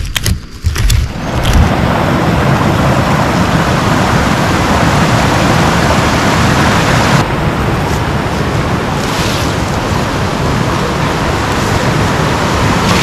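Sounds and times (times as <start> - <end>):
heavy rain pouring: 1.1 - 13.0.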